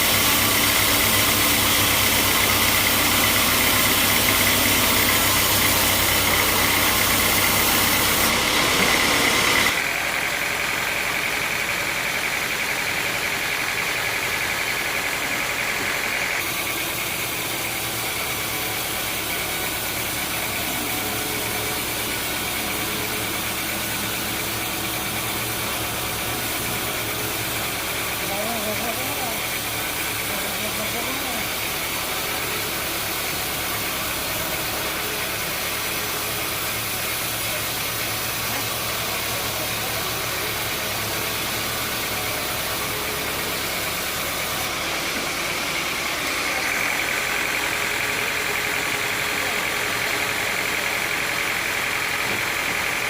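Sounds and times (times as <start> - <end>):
sawmill machinery drone: 0.0 - 53.0.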